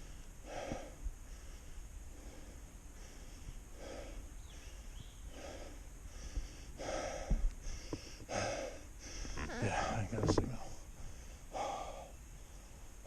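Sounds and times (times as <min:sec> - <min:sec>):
man breathing heavily: 0:00.0 - 0:10.0, 0:10.6 - 0:13.0.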